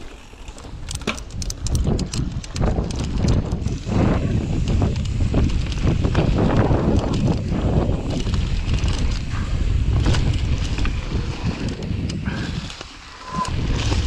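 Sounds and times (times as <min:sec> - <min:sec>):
bike clattering over bumps: 0:00.0 - 0:14.0
bike tyres rumbling over dirt: 0:00.0 - 0:14.0
wind buffeting microphone: 0:00.7 - 0:14.0.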